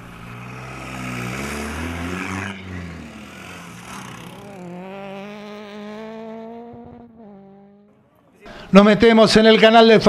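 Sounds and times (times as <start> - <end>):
rally car engine revving: 0.0 - 8.2.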